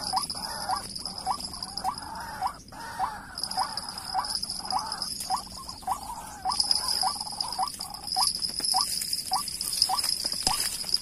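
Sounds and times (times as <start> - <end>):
waterhen calling: 0.0 - 10.1.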